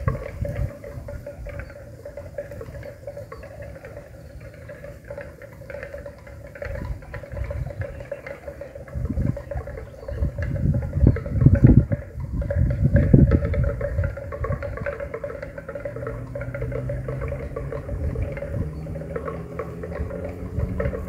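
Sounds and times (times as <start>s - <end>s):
neck bells jangling: 0.0s - 21.0s
steady ringing tone: 0.0s - 21.0s.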